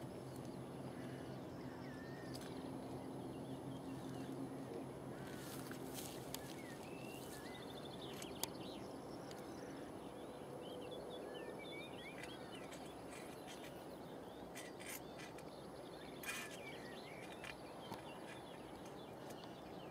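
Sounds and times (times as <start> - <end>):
birds chirping and singing: 0.0 - 19.9
low hiss of open air: 0.0 - 19.9.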